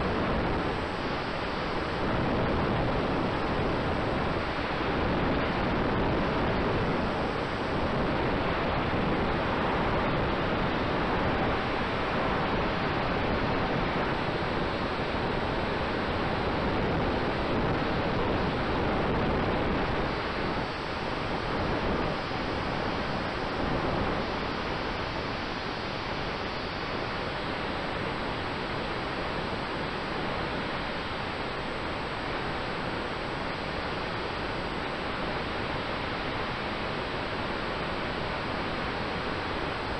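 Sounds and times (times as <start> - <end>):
faint steady whine: 0.0 - 39.9
wind rushing on microphone: 0.0 - 39.9.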